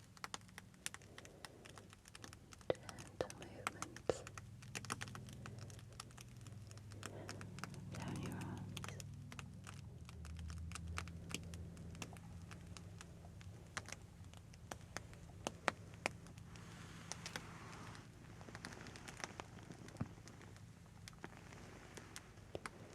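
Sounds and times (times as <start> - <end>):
faint low hum: 0.0 - 22.9
light tapping and crackling clicks: 0.0 - 22.9
soft breathy sound: 0.7 - 9.8, 11.0 - 22.9.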